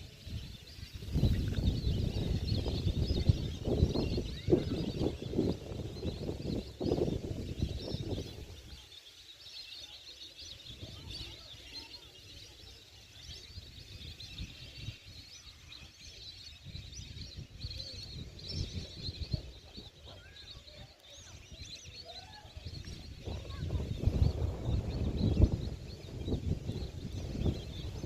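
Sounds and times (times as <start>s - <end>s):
flock of birds chirping: 0.0s - 28.0s.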